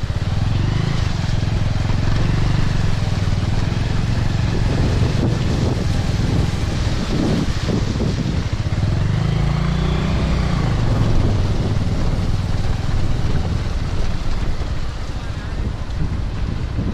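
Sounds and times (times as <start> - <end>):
motorcycle engine running: 0.0 - 16.9
wind noise on microphone: 0.0 - 16.9.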